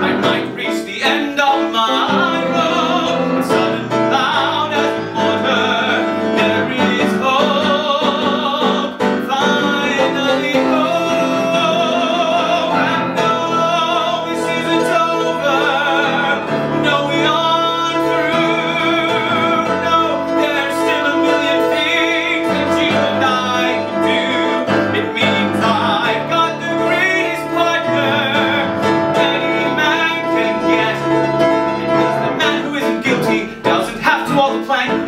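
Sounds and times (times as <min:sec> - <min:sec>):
live instrumental accompaniment: 0:00.0 - 0:35.0
man singing with vibrato: 0:00.0 - 0:35.0.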